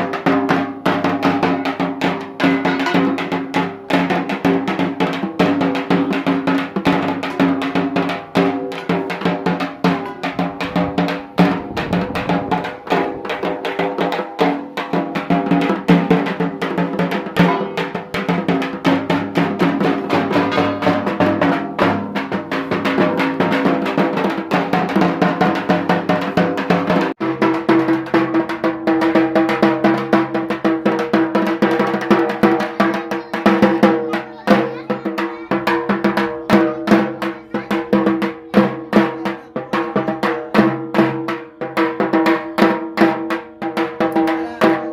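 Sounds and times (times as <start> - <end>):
barrel drum beaten with sticks: 0.0 - 44.9.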